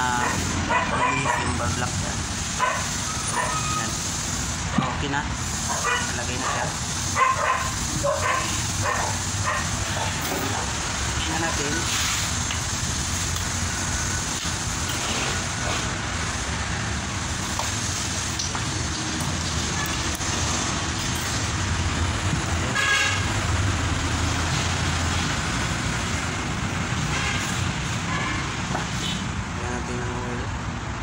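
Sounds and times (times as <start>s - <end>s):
engine and traffic hum: 0.0s - 31.0s.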